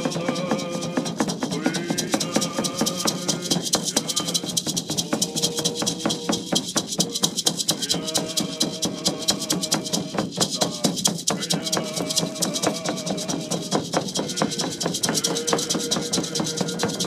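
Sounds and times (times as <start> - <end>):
rattles shaken in fast beat: 0.0 - 17.0
voices chanting held notes: 0.0 - 17.0.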